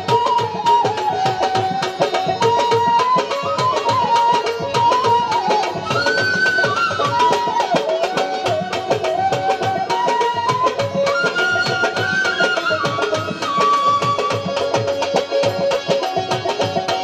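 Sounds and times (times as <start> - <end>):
barrel drum beat: 0.0 - 17.0
folk melody line: 0.0 - 17.0.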